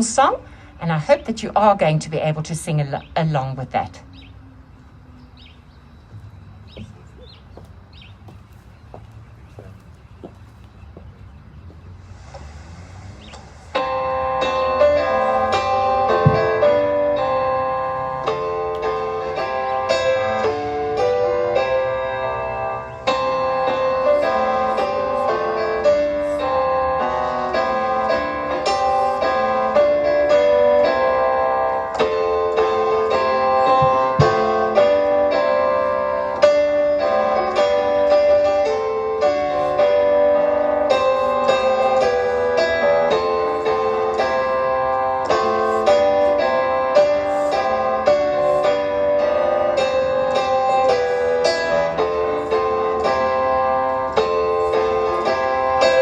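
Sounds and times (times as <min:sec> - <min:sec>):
piano accompaniment: 0:06.0 - 0:56.0.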